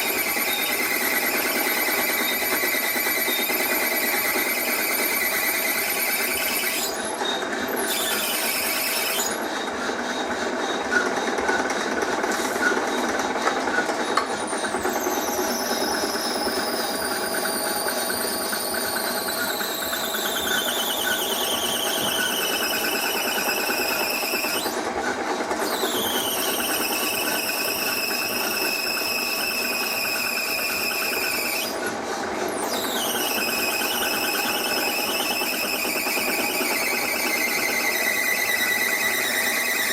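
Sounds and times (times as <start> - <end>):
cutting tool squealing on metal: 0.0 - 39.9.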